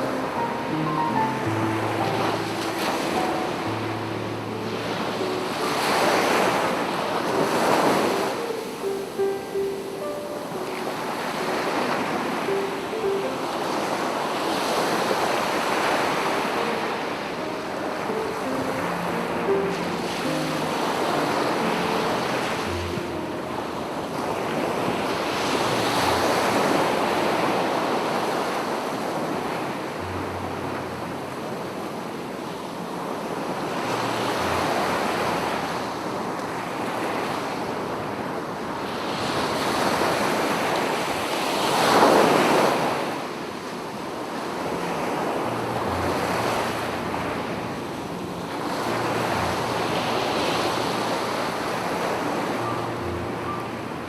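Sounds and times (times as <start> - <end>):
surf breaking on shore: 0.0 - 54.0.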